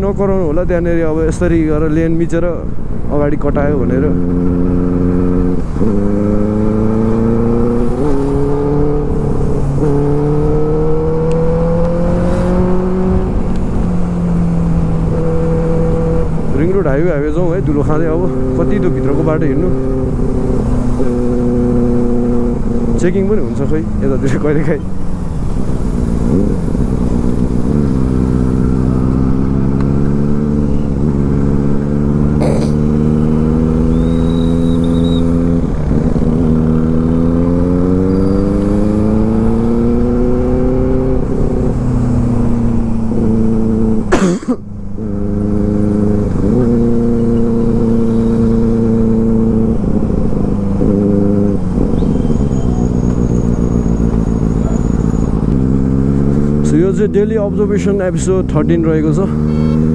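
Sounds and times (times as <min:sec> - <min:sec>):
motorcycle engine revving: 0:03.4 - 0:59.9.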